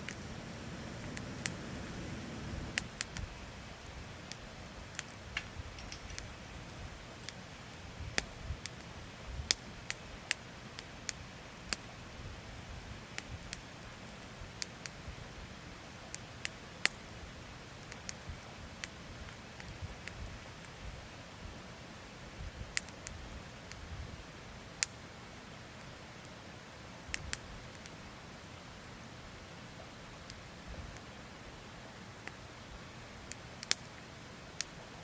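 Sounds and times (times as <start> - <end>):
campfire crackling: 0.0 - 21.4, 22.0 - 35.0
faint steady hiss: 0.0 - 35.0.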